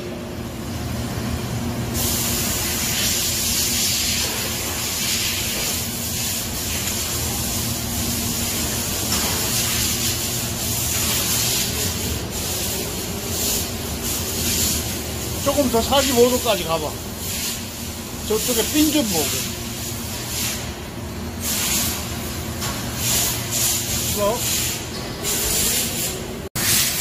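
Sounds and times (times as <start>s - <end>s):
low machine hum: 0.0s - 26.5s
machine hiss: 1.8s - 27.0s.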